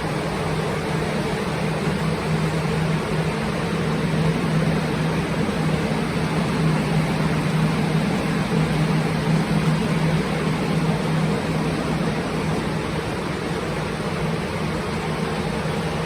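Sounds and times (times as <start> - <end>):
drying fans blowing air: 0.0 - 16.0
fan motor hum: 0.0 - 16.0.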